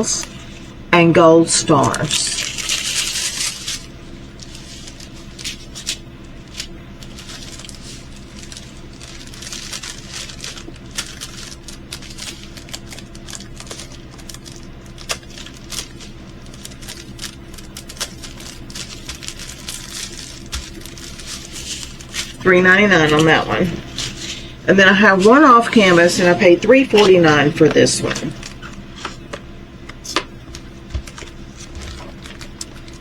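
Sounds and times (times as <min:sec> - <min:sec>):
steady low hum: 0:00.0 - 0:33.0
plastic bags crinkling and clicking: 0:01.8 - 0:24.5, 0:25.1 - 0:33.0.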